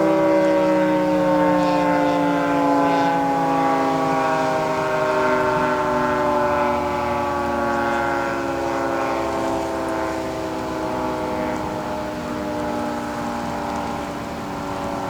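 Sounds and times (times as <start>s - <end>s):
dual-tone warning siren: 0.0s - 15.0s.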